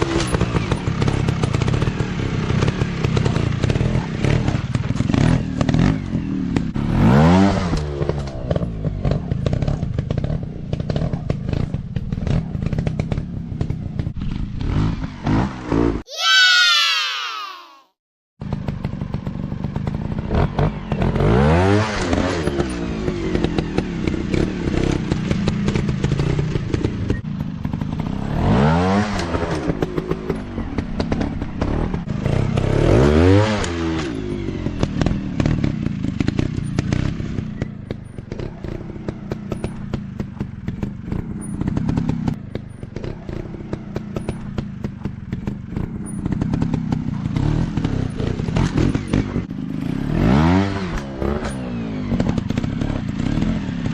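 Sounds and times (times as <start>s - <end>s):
dirt bike engine revving: 0.0s - 17.6s, 18.5s - 44.7s, 45.3s - 53.9s.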